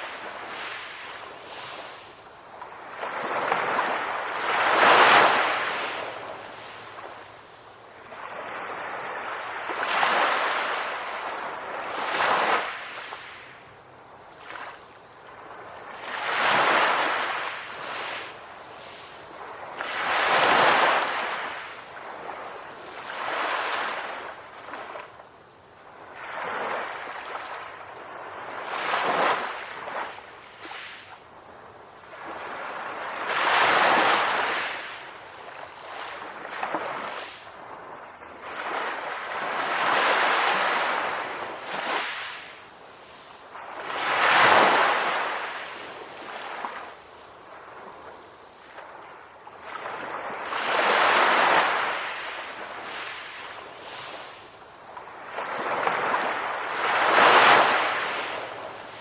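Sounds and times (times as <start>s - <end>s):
ocean waves washing ashore: 0.0s - 59.0s.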